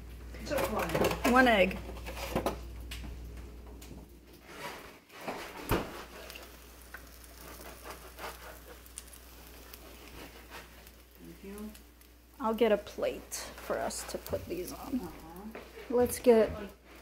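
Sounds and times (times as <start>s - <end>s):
bread sizzling in a pan: 0.0s - 3.6s, 4.4s - 17.0s.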